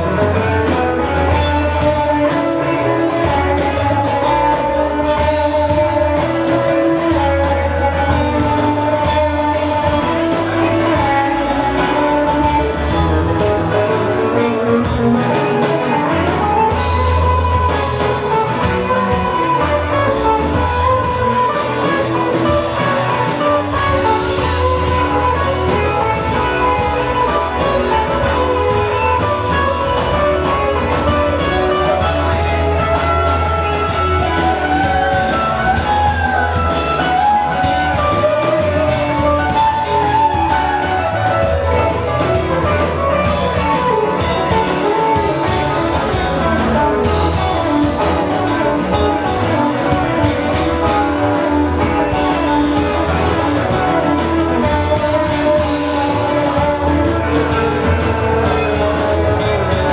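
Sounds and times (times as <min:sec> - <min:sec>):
drum kit: 0:00.0 - 0:59.9
lead guitar bending melody: 0:00.0 - 0:59.9
steady low bass: 0:00.0 - 0:59.9.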